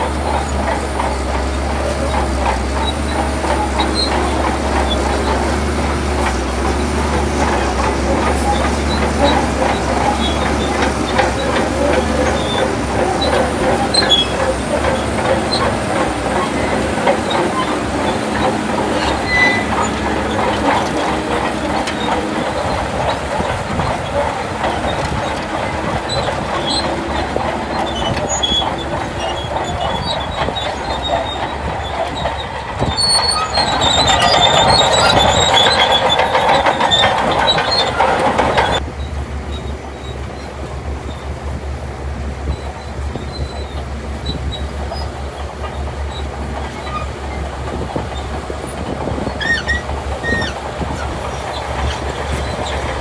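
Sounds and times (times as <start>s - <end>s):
bulldozer diesel engine: 0.0s - 53.0s
steel tracks clanking and squealing: 0.0s - 53.0s.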